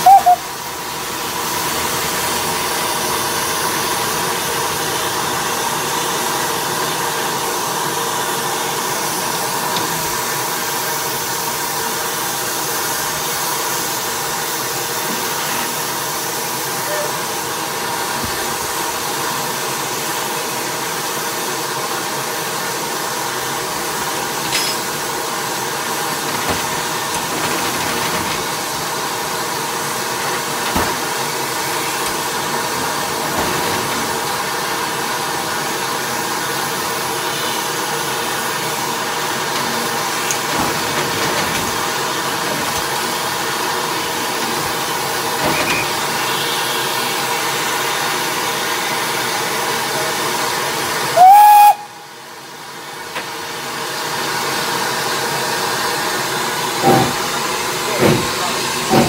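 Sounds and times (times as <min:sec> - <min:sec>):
steam hissing from locomotive: 0:00.0 - 0:59.0.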